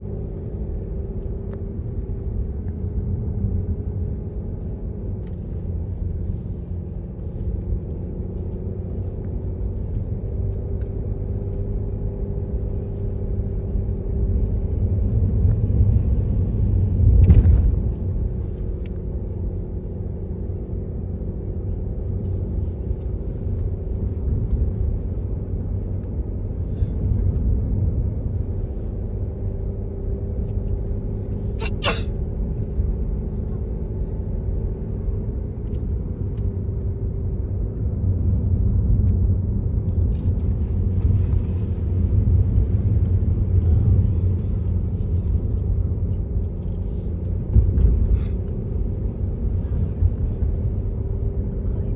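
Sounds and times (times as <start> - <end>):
vehicle rumble from inside cabin: 0.0 - 51.9.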